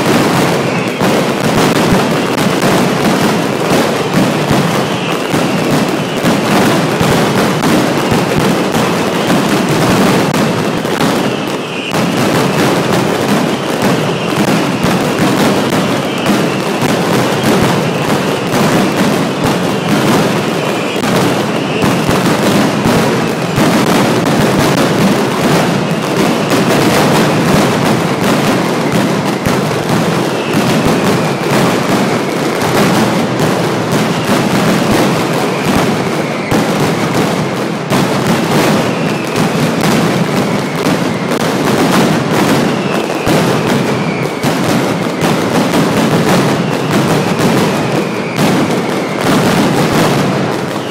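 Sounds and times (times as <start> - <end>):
barrage of exploding firecrackers: 0.0 - 50.9.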